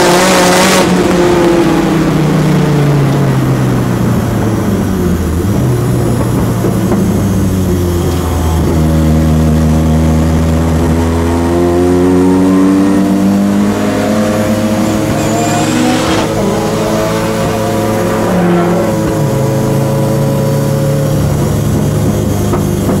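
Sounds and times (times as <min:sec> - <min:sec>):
turbocharged car engine revving: 0:00.0 - 0:23.0.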